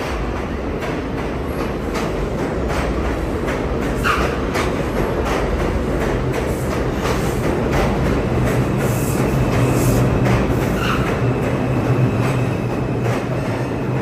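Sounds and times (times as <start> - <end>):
subway train rumble: 0.0 - 14.0
wheels clacking over rail joints: 0.0 - 14.0.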